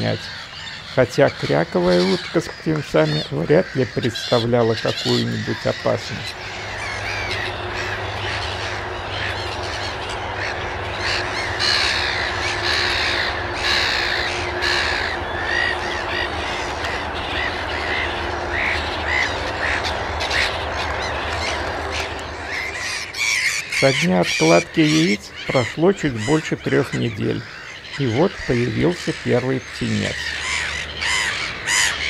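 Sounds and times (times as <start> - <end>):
gulls calling: 0.0 - 32.0.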